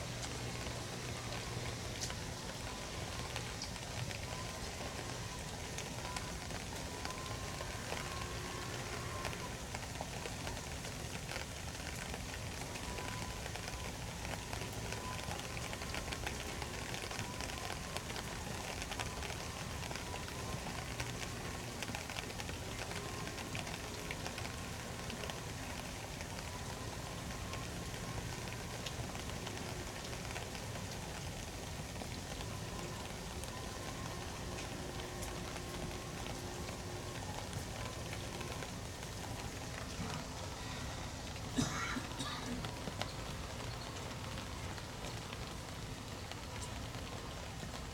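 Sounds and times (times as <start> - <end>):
heavy rain falling: 0.0 - 47.9
raindrops ticking on hard surfaces: 0.0 - 47.9.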